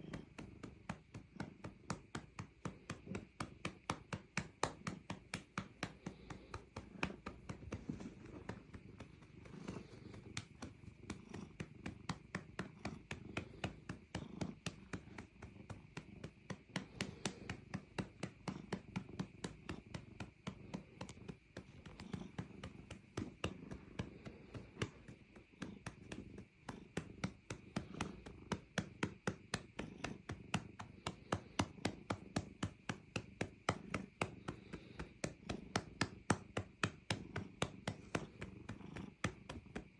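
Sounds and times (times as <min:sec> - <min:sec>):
cat purring: 0:00.0 - 0:39.9
hand patting a cat: 0:00.0 - 0:39.9.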